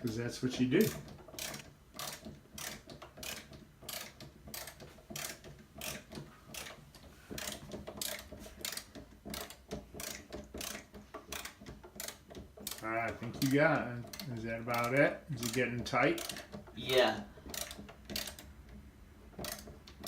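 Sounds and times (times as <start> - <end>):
ratcheting screwdriver clicking: 0.8 - 12.8, 13.4 - 15.6, 16.2 - 16.8, 17.4 - 18.6, 19.4 - 20.0.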